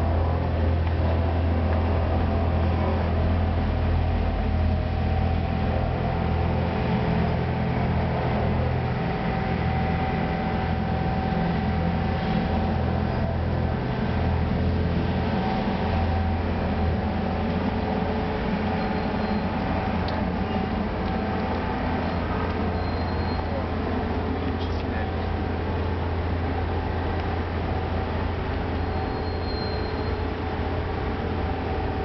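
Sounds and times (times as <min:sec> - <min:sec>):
diesel engines droning: 0:00.0 - 0:32.0
faint steady whine: 0:00.0 - 0:32.0.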